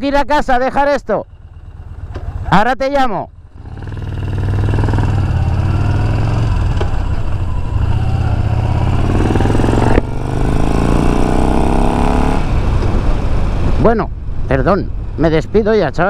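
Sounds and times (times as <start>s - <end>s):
motorcycle engine accelerating: 1.2s - 2.6s, 3.2s - 15.5s.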